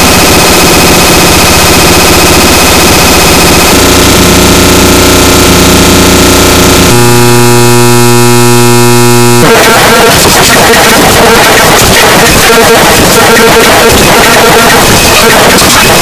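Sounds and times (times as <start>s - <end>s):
distorted buzzing: 0.0s - 16.0s
harsh crackling noise: 0.0s - 16.0s.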